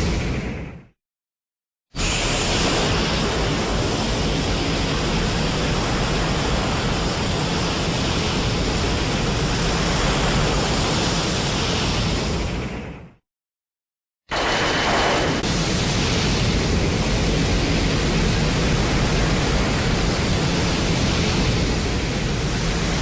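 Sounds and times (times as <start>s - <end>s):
rushing hiss with low rumble: 2.0s - 12.6s, 14.3s - 23.0s.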